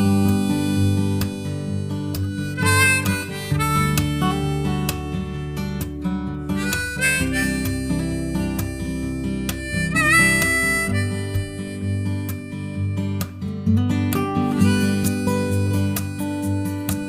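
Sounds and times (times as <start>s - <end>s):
acoustic guitar: 0.0s - 17.0s
harmonica: 0.0s - 17.0s.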